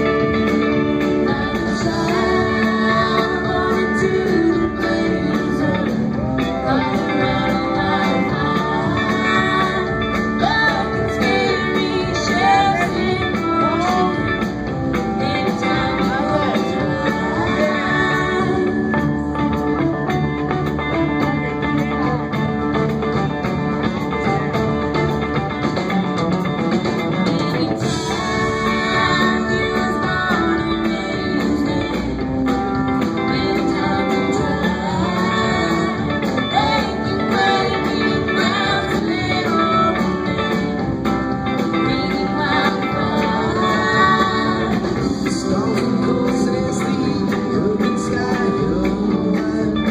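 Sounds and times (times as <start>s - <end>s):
woman singing: 0.0s - 22.4s, 27.0s - 49.9s
drums: 0.0s - 49.9s
electric guitars: 0.0s - 49.9s.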